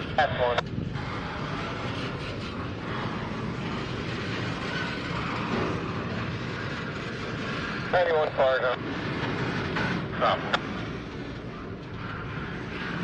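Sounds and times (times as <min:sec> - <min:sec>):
freight cars rolling past: 0:00.0 - 0:13.0.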